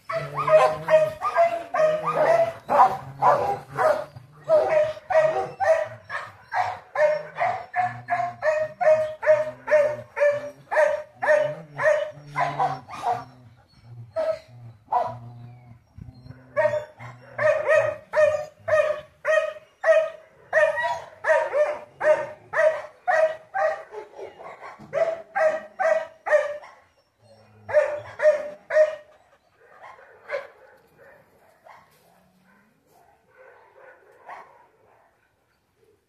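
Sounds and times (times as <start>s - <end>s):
dog barking: 0.1s - 13.3s, 14.2s - 15.2s, 16.6s - 26.8s, 27.7s - 29.1s, 29.7s - 35.2s.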